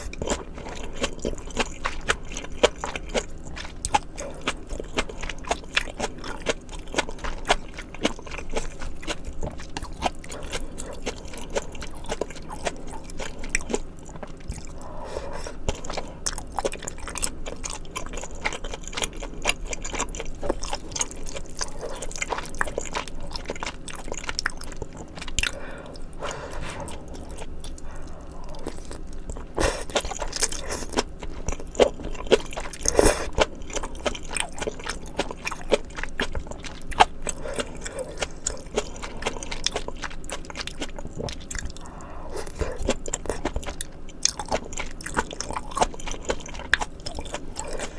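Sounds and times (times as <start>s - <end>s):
close-miked chewing: 0.0s - 47.9s.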